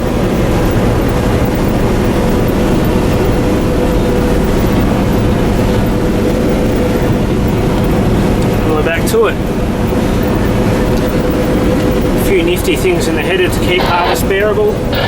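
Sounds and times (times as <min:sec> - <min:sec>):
combine harvester drone in cab: 0:00.0 - 0:15.0.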